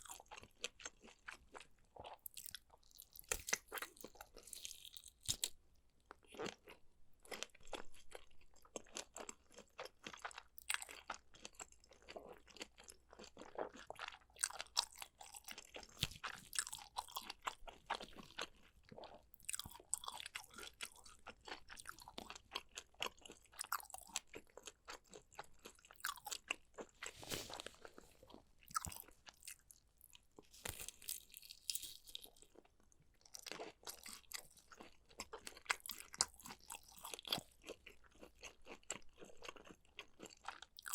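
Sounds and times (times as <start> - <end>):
person crunching and chewing: 0.0 - 40.9.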